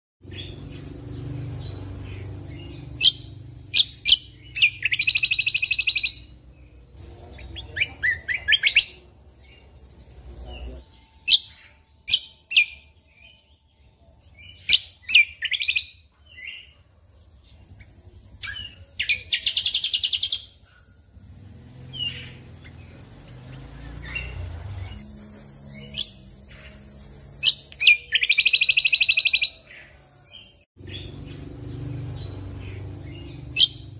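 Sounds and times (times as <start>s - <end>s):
bird singing whistles and trills: 0.3s - 6.4s, 7.3s - 16.8s, 17.6s - 21.1s, 21.8s - 33.9s.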